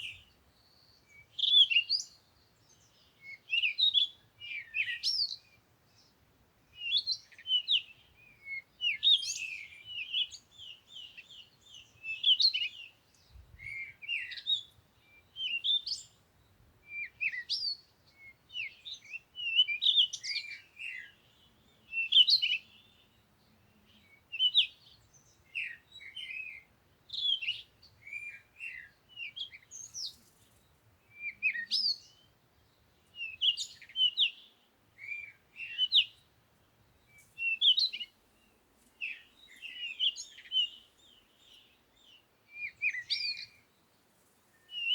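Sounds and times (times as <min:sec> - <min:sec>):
songbirds chirping and whistling: 0:00.0 - 0:44.9.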